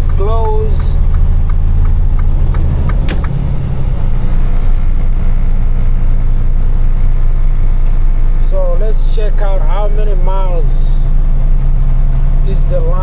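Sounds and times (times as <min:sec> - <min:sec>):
diesel truck engine drone: 0:00.0 - 0:13.0.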